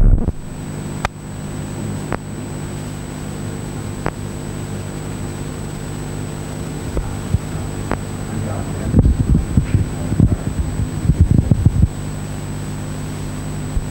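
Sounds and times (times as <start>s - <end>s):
low electrical hum: 0.0s - 13.9s.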